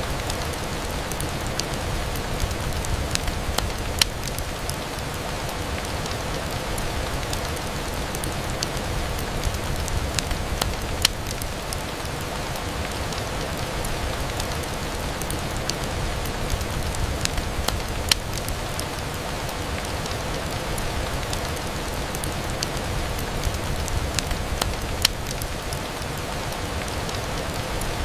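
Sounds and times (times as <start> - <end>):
rain on a window: 0.0 - 28.0.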